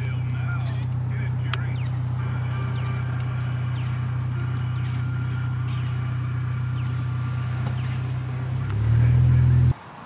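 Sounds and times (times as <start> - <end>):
vehicle engine drone: 0.0 - 9.8.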